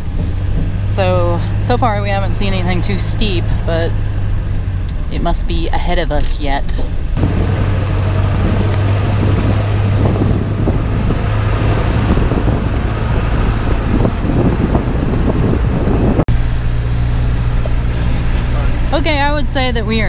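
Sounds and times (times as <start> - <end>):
gravel road noise: 0.0 - 20.0
truck engine drone: 0.0 - 20.0.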